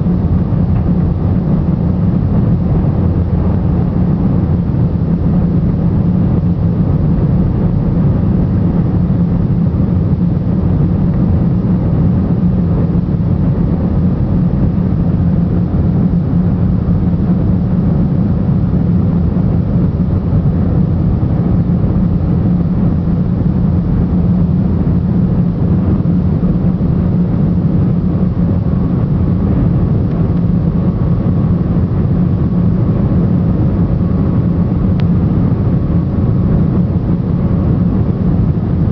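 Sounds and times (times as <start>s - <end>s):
jet engines and airflow drone: 0.0s - 38.9s.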